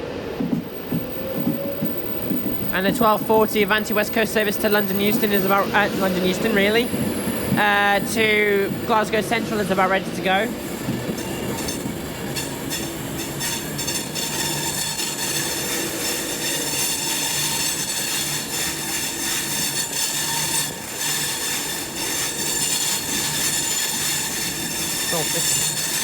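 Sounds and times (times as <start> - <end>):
electric train whine: 0.0 - 26.0
rail and wheel noise: 0.0 - 26.0.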